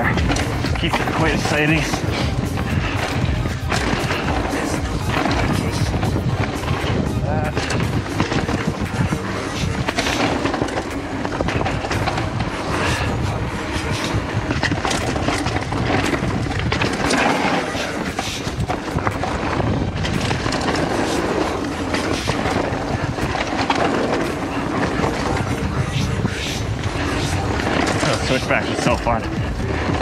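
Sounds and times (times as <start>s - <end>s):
bike rattling over bumps: 0.0s - 30.0s
bike tyres rumbling over dirt: 0.0s - 30.0s.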